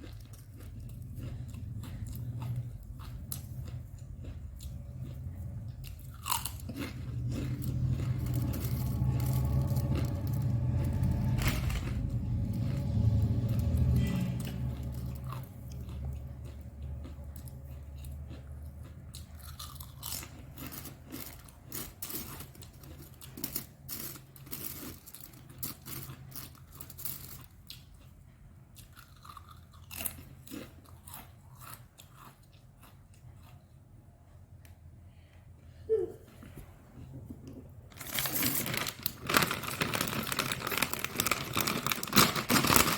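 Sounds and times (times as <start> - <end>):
crunching snack chewing: 0.0 - 33.8, 37.0 - 42.9
low steady hum: 0.0 - 42.9.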